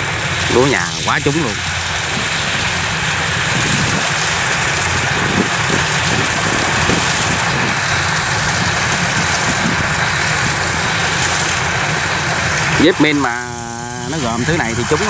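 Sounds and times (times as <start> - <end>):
diesel engine drone: 0.0 - 15.0
machinery hissing: 0.0 - 15.0.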